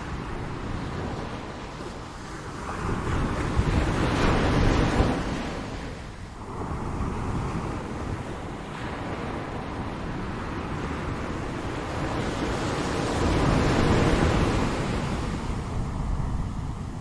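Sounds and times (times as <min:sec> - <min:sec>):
ocean waves washing on shore: 0:00.0 - 0:17.0.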